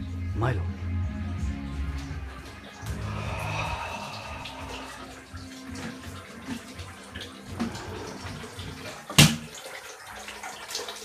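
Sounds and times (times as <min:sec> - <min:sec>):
water sloshing and trickling: 0:01.4 - 0:11.0.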